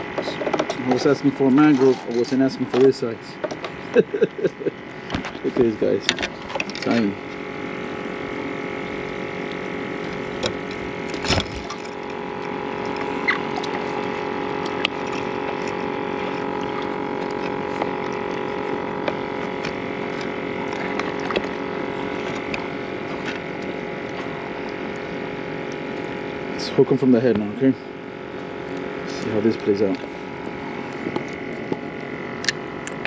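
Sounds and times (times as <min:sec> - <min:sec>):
aerator pump humming: 0:00.0 - 0:33.0.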